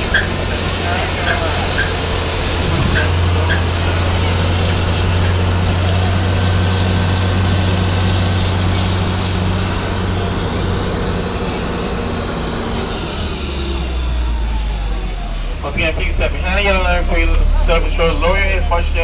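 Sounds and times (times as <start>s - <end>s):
tram engine drone: 0.0s - 19.0s.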